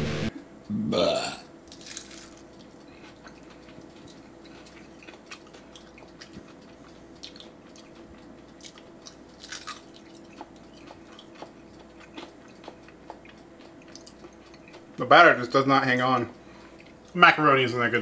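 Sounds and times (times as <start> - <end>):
faint steady hum: 0.0 - 18.0
close-up chewing and crunching: 1.7 - 17.2.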